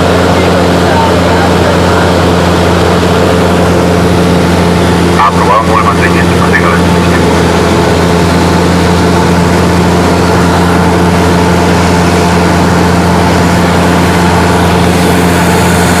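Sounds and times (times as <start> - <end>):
propeller aircraft engine droning: 0.0 - 16.0.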